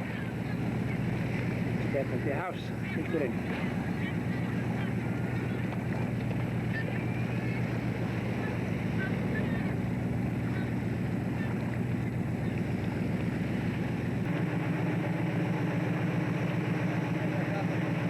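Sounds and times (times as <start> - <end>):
boat diesel engine droning: 0.0 - 18.0.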